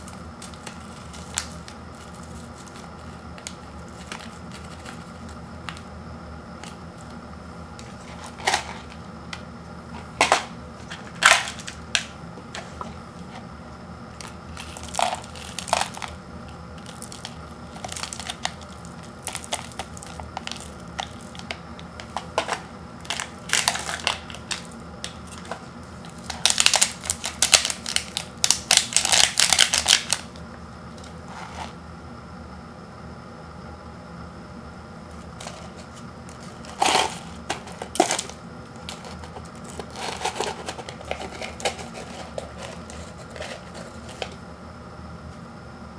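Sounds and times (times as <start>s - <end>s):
foil packet crinkling: 0.0s - 5.9s, 6.6s - 9.4s, 10.0s - 13.4s, 14.2s - 30.4s, 35.1s - 44.4s.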